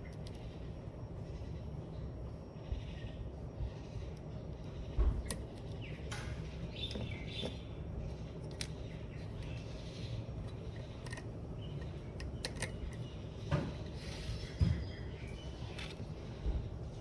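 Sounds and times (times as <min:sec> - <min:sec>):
birds chirping: 0:00.0 - 0:16.7
steady low rumble: 0:00.0 - 0:17.0.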